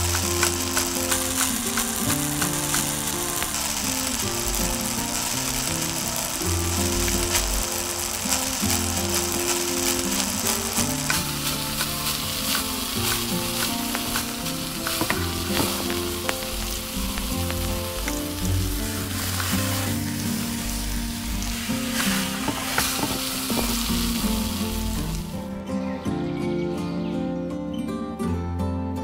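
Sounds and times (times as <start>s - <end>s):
food sizzling in pot: 0.0s - 25.6s.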